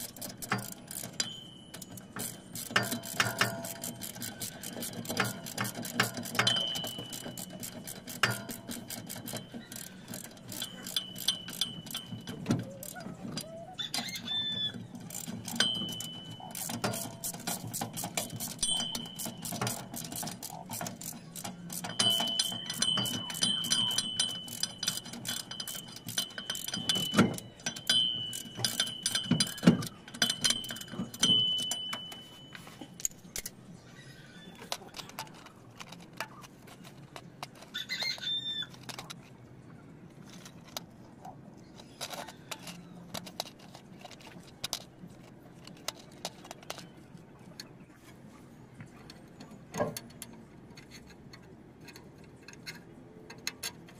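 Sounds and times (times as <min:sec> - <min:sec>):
metallic clicking and rattling of tools: 0:00.0 - 0:53.9.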